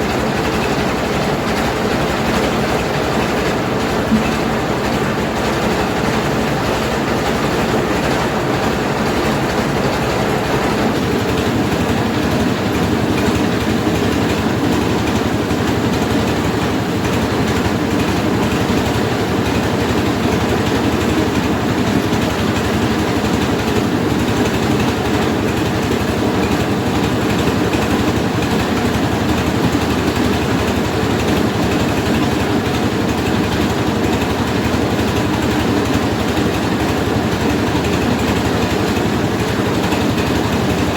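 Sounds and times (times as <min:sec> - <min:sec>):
rice milling machine running: 0:00.0 - 0:40.9.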